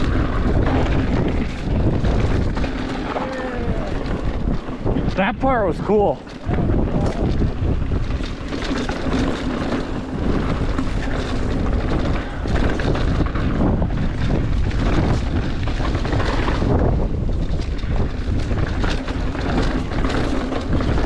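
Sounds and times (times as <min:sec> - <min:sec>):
bike rattling over rock: 0:00.0 - 0:21.0
wind rushing over microphone: 0:00.0 - 0:21.0.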